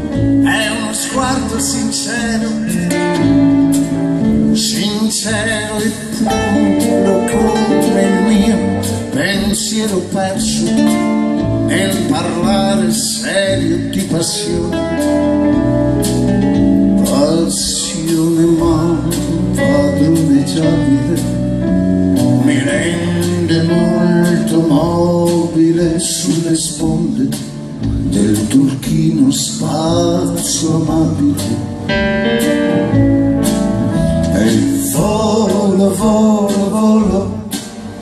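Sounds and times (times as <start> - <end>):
man singing: 0.0 - 3.4, 4.4 - 15.3, 16.8 - 31.9, 33.9 - 38.0
double bass: 0.0 - 38.0
drums: 0.0 - 38.0
guitar: 0.0 - 38.0.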